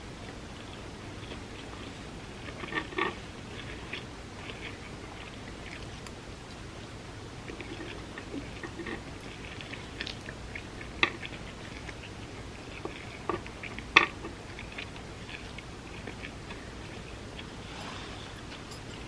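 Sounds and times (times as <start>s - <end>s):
wet chewing mouth clicks: 0.1s - 19.0s.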